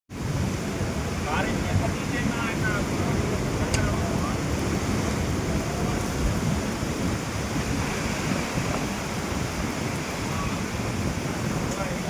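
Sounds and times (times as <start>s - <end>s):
heavy rain falling: 0.1s - 12.0s.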